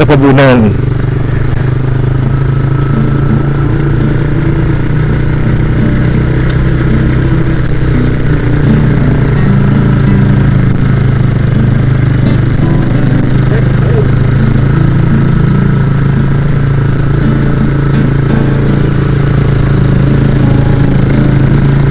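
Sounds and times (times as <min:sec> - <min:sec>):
motorcycle engine cruising: 0:00.0 - 0:21.9.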